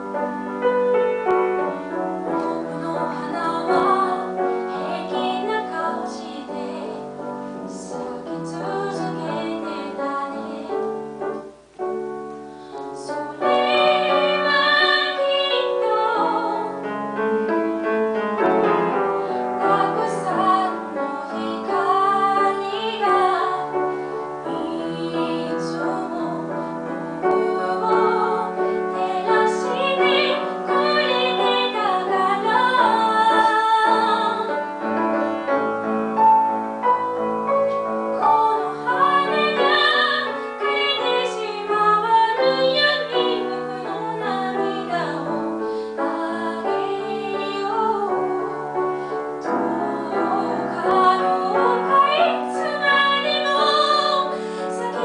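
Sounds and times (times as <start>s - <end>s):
woman singing: 0.0s - 11.5s, 12.8s - 17.6s, 18.4s - 55.0s
grand piano: 0.0s - 55.0s.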